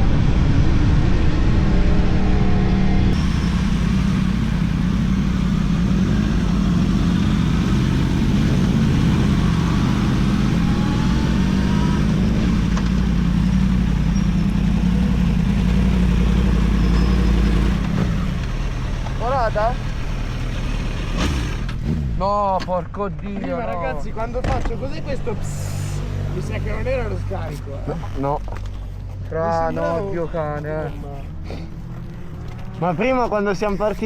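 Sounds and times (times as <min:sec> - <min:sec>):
motorcycle engine cruising: 0:01.6 - 0:34.0.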